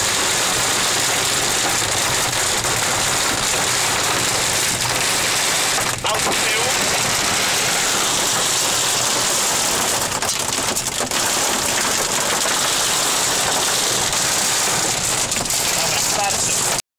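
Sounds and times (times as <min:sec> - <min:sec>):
heavy rain on a car roof: 0:00.0 - 0:16.8.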